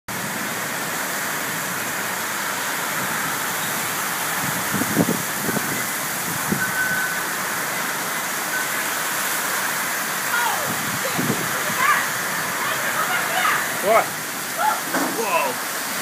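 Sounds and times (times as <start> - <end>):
heavy rain pouring: 0.1 - 16.0.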